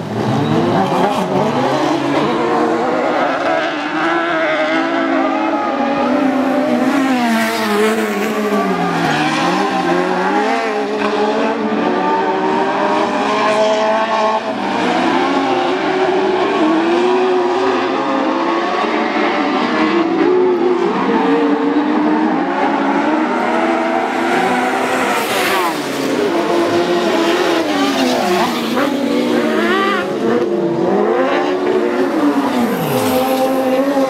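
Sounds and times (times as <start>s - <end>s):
racing buggy engines revving: 0.0s - 34.0s.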